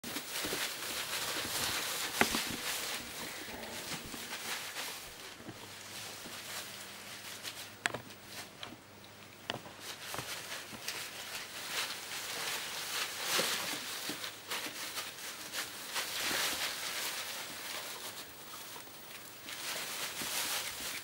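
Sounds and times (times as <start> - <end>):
shredded paper rustling: 0.0 - 7.7, 9.7 - 18.8, 19.5 - 21.0.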